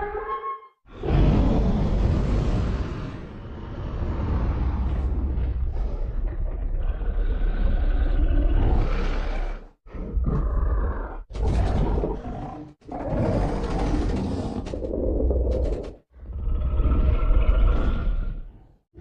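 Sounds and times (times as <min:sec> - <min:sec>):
deep rumbling monster growl: 0:00.9 - 0:19.0.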